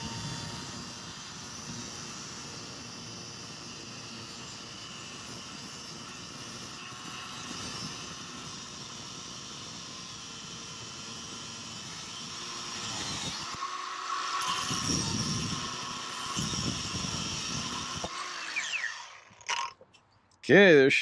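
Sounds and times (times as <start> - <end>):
angle grinder cutting steel: 0.0 - 19.8.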